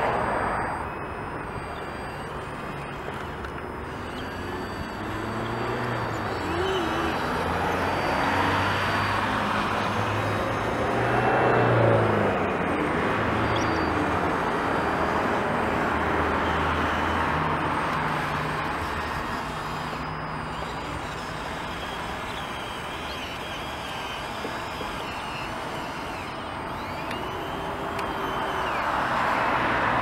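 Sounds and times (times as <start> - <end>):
tyre noise of traffic: 0.0 - 30.0
van engine hum: 0.0 - 30.0.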